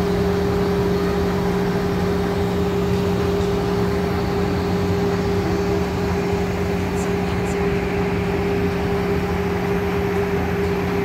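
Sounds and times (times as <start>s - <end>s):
machinery droning: 0.0s - 11.0s.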